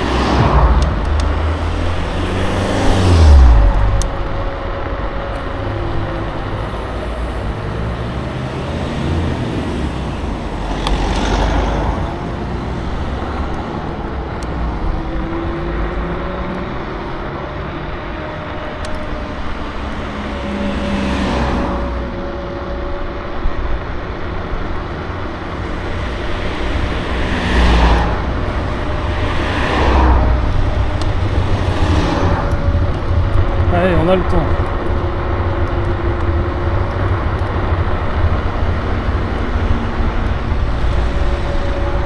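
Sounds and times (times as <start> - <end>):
electric scooter riding rumble: 0.0 - 42.0
faint whine drifting in pitch: 0.0 - 42.0
wind noise: 0.0 - 42.0.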